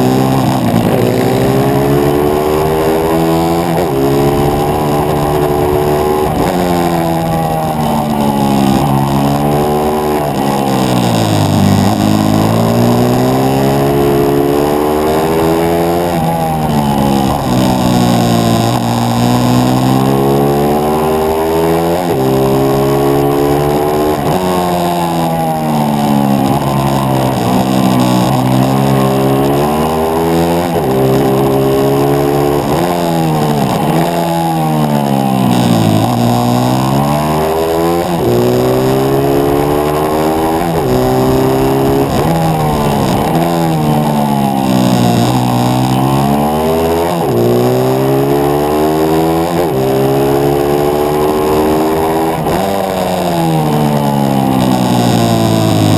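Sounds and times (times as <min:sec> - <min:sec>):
pit bike engine revving: 0:00.0 - 0:55.9.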